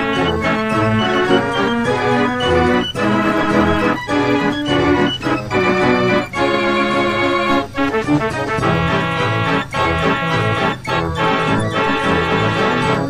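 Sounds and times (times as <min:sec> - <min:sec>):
organ music: 0:00.0 - 0:13.0.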